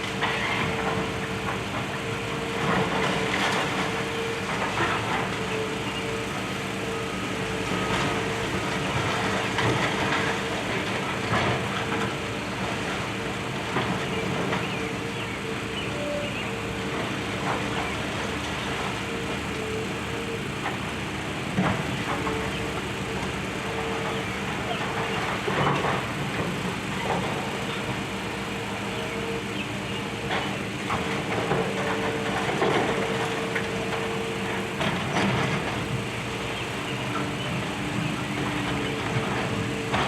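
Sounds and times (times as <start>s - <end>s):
excavator running: 0.0s - 40.0s.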